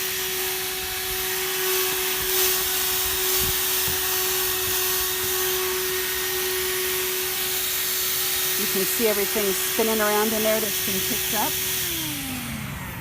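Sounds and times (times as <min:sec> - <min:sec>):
handheld vacuum running: 0:00.0 - 0:13.0.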